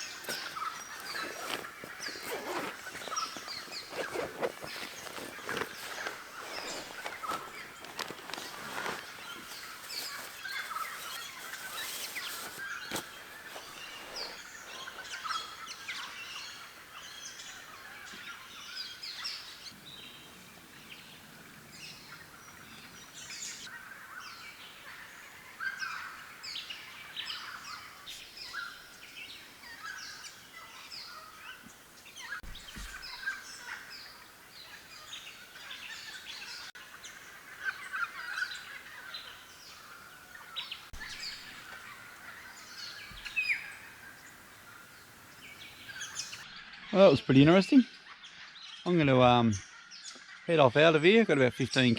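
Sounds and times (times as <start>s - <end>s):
wild birds chirping: 0.0s - 51.0s.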